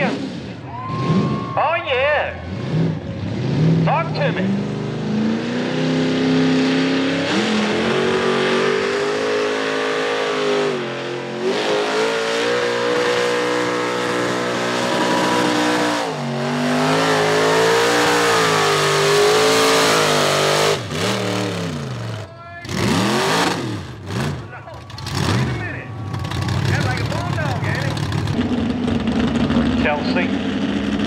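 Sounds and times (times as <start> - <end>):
truck engine revving under heavy load: 0.0 - 31.0.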